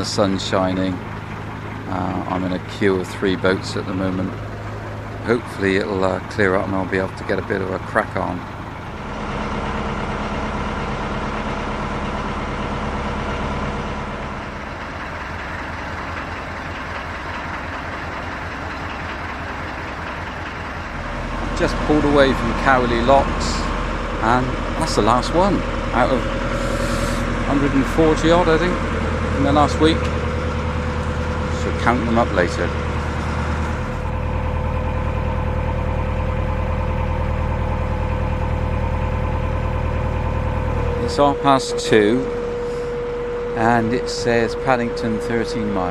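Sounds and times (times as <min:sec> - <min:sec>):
diesel engine chugging: 0:00.0 - 0:45.9.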